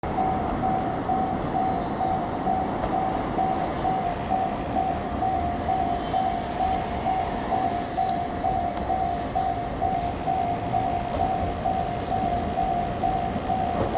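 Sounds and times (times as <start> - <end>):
freight train running: 0.0 - 13.9
level-crossing warning bell: 0.0 - 13.9.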